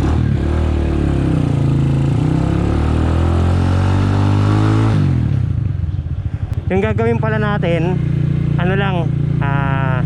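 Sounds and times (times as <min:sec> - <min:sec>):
motorcycle engine under throttle: 0:00.0 - 0:10.0.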